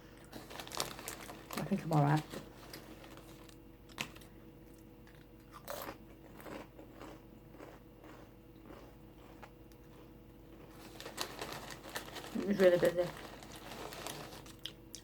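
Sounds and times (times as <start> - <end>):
person chewing crisps: 0.2 - 15.0.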